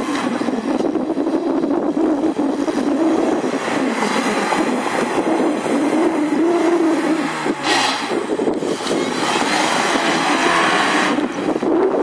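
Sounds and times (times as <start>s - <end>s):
vehicle engine at high revs: 0.0s - 12.0s.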